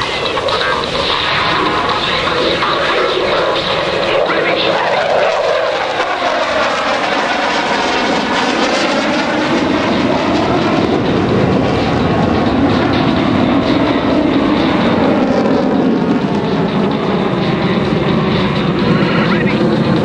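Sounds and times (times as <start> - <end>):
fighter jet engine roar: 0.0 - 20.0.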